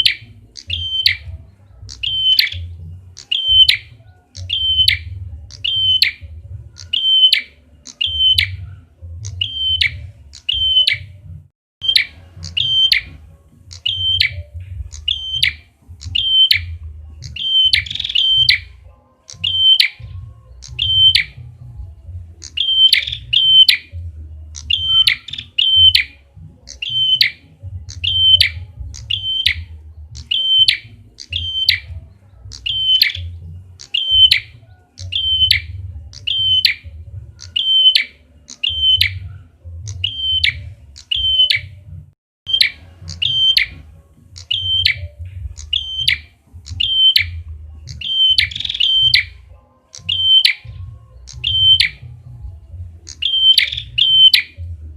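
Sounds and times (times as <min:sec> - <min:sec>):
bird chirping call: 0:00.0 - 0:41.8, 0:42.5 - 0:52.3, 0:53.1 - 0:54.7.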